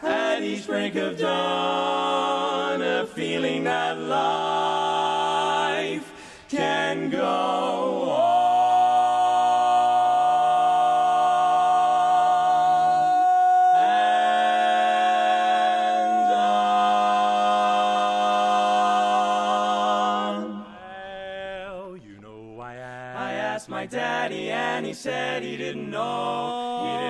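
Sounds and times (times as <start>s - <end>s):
vocal group singing chords: 0.0s - 27.0s.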